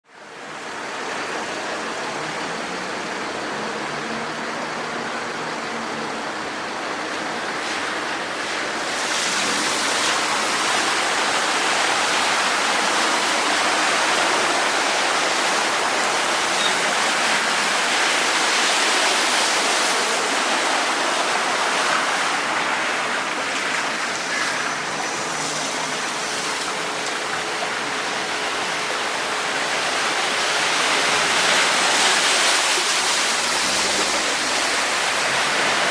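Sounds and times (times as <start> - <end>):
river rushing in flood: 0.1 - 35.9.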